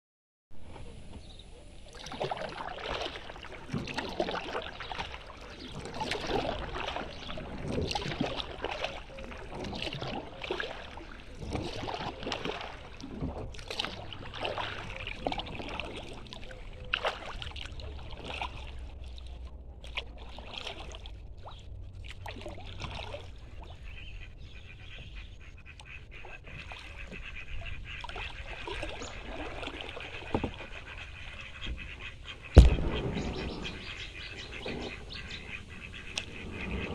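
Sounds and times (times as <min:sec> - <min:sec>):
paddle strokes in water: 0:00.6 - 0:36.9
water dripping off paddle: 0:01.8 - 0:23.7, 0:27.9 - 0:36.9.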